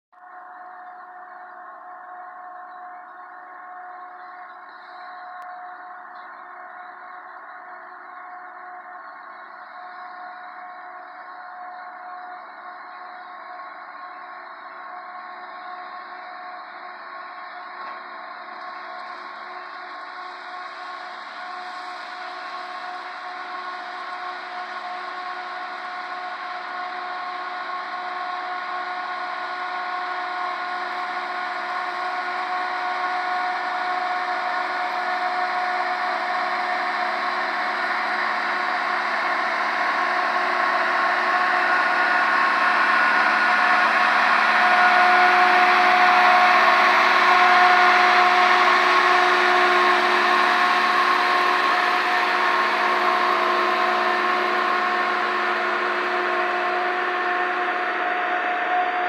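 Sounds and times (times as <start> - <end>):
steady mechanical whine: 0.2 - 59.0
rail machine engine: 2.9 - 59.0.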